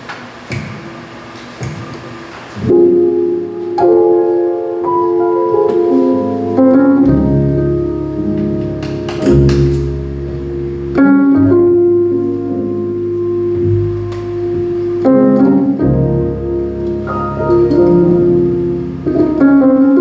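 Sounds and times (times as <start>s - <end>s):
piano chords: 1.0s - 20.0s
deep bass notes: 2.6s - 20.0s
guitar: 2.6s - 20.0s.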